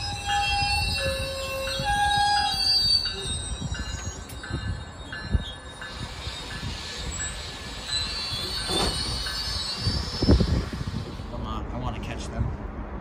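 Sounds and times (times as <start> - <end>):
train wheels squealing: 0.0 - 11.4
train rumble: 0.0 - 13.0.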